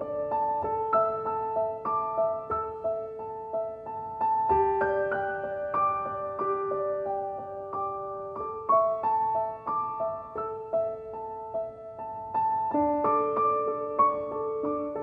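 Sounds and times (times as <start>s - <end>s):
gentle keyboard melody: 0.0s - 15.0s.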